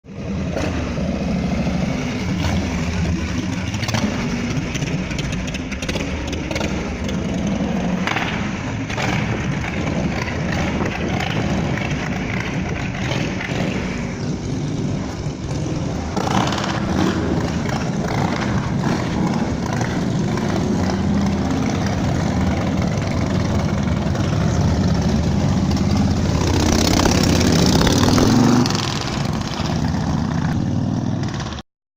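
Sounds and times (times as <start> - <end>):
motorcycle engine running loudly: 0.1 - 31.6.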